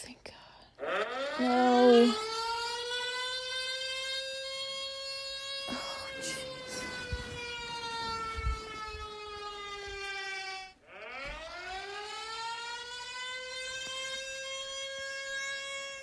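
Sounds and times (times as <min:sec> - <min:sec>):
siren alarm clock wailing: 0:00.8 - 0:16.0.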